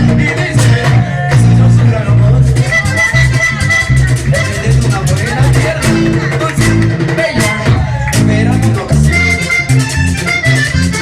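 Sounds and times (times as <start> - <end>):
accordion melody: 0.0 - 11.0
bass line: 0.0 - 11.0
rhythmic percussion beat: 0.0 - 11.0.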